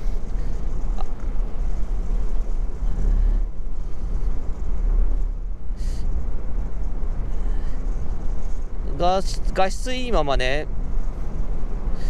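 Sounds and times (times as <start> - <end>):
road and engine noise: 0.0 - 12.0
wind rumble on microphone: 0.0 - 12.0.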